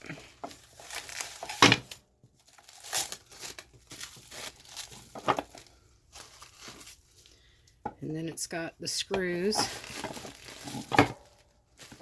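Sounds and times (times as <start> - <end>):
packaging crinkling: 0.0 - 7.6, 9.5 - 12.0.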